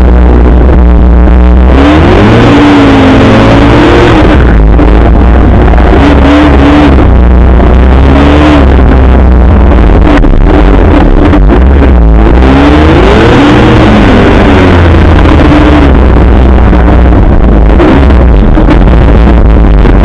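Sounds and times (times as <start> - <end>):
snowmobile engine revving: 0.0 - 20.0.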